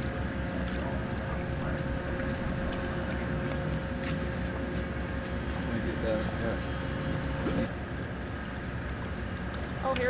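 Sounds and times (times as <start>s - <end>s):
machine rumble and hum: 0.0s - 10.0s.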